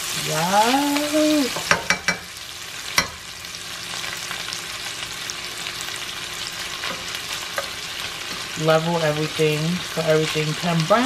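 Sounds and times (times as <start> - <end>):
sausage and onions sizzling: 0.0 - 11.0.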